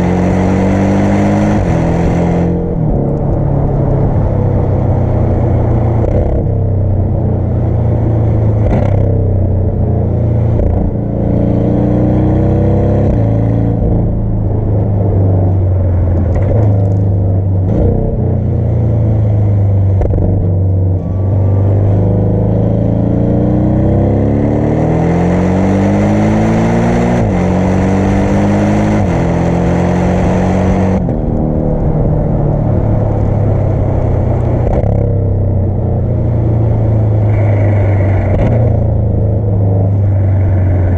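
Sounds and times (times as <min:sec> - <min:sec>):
sports car engine accelerating: 0:00.0 - 0:40.9.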